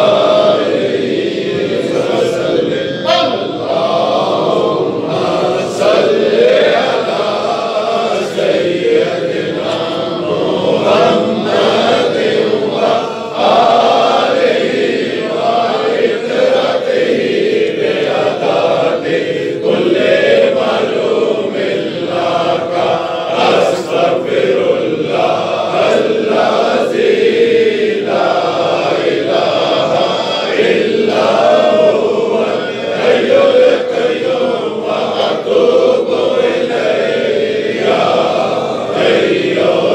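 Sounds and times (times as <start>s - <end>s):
men chanting together: 0.0s - 39.9s.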